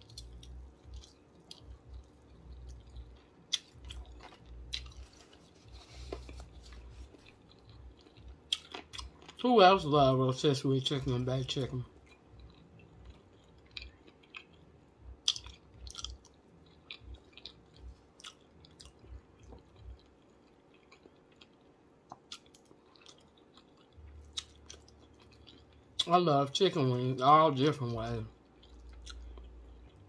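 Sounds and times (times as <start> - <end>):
person chewing: 0.0 - 9.5, 11.0 - 26.1, 28.4 - 30.0.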